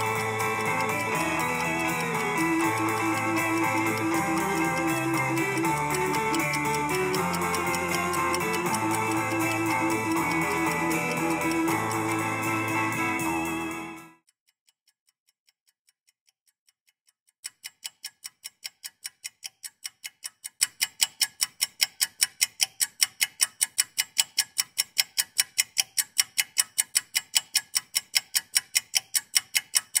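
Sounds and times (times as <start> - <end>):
clock-like ticking: 0.0 - 30.0.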